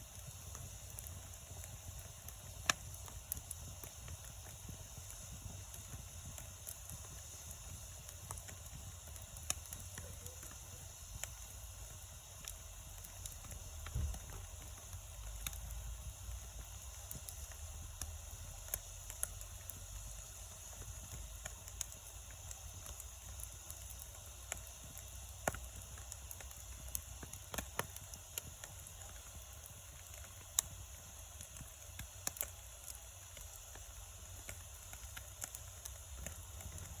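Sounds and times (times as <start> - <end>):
campfire crackling and popping: 0.0 - 37.0
fire hissing: 0.0 - 37.0.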